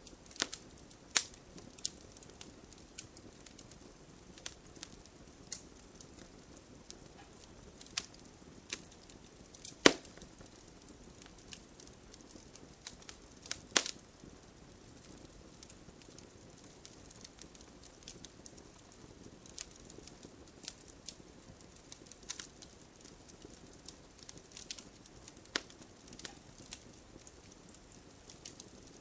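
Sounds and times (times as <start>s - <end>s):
bonfire crackling and popping: 0.0s - 29.0s
rain pattering: 0.0s - 29.0s.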